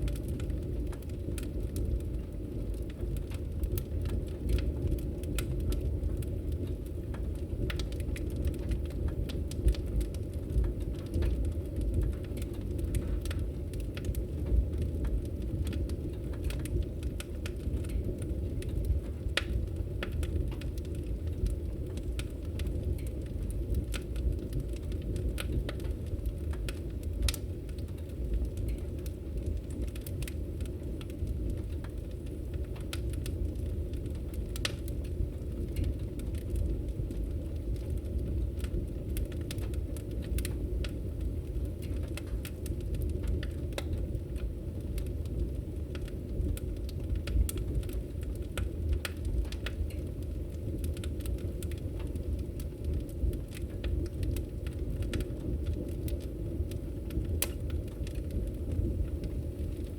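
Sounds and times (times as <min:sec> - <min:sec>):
logs burning and crackling: 0:00.0 - 0:59.9.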